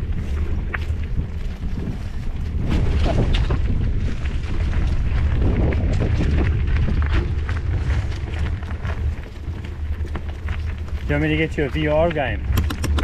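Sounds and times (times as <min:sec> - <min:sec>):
tyres crunching over dry leaves: 0:00.0 - 0:13.0
wind buffeting microphone: 0:00.0 - 0:13.0
bike knocks and rattles: 0:01.7 - 0:13.0.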